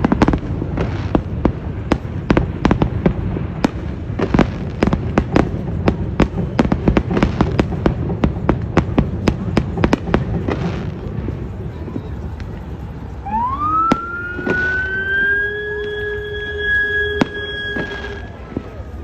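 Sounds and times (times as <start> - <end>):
fireworks sharp bangs: 0.0 - 19.0
low rumble of fireworks bursts: 0.0 - 19.0.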